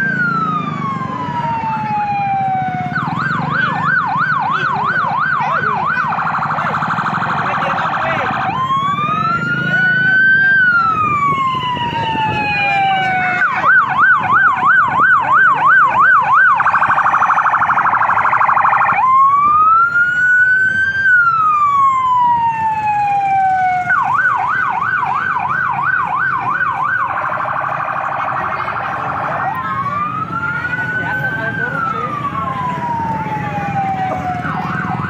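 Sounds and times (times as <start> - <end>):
electronic siren cycling tones: 0.0 - 35.0.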